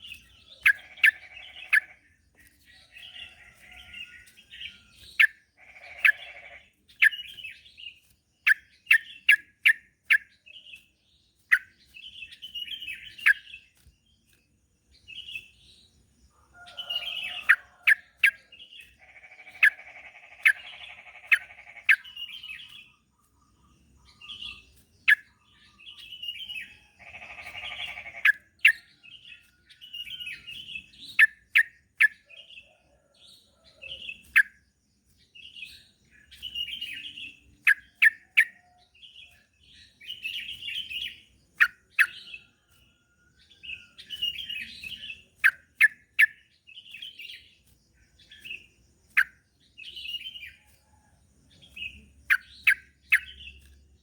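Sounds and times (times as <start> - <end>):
bulbul singing and chattering: 0.0 - 54.0.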